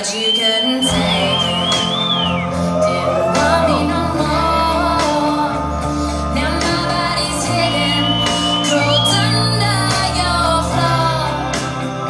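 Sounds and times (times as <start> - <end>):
person singing: 0.0 - 12.0
long held bass notes: 0.9 - 12.0.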